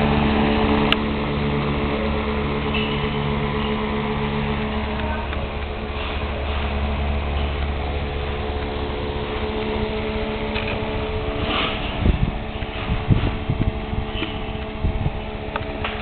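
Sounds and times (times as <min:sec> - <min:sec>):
desk fan humming and whirring: 0:00.0 - 0:16.0
low thumps: 0:00.0 - 0:16.0.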